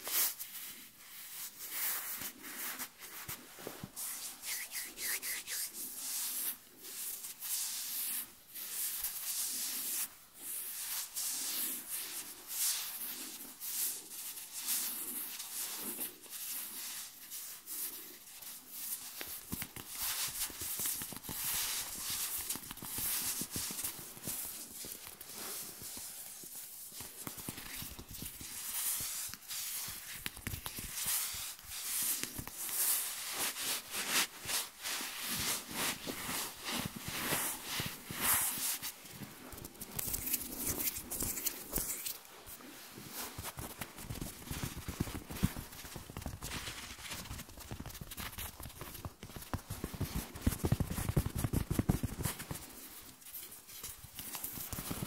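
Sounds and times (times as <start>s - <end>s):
hands rubbing skin: 1.1s - 55.0s.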